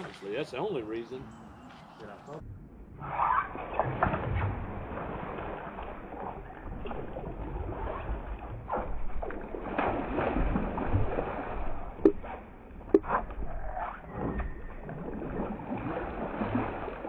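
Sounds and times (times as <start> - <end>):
water splashing and sloshing: 0.0 - 0.8, 2.4 - 17.0.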